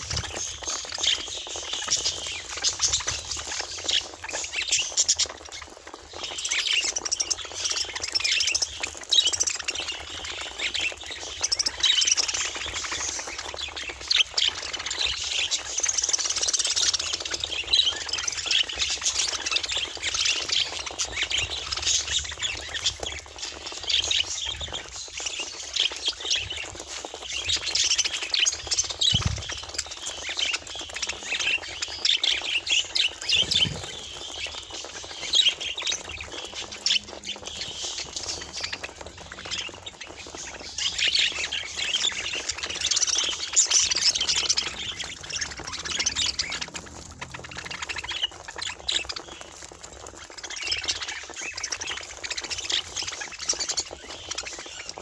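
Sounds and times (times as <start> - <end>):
budgerigars chattering: 6.1 - 55.0.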